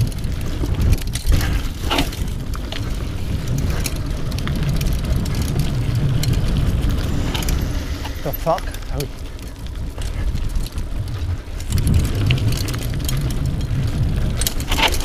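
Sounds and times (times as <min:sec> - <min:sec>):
bike clicks and rattles: 0:00.0 - 0:15.0
wind and tyre rumble: 0:00.0 - 0:15.0.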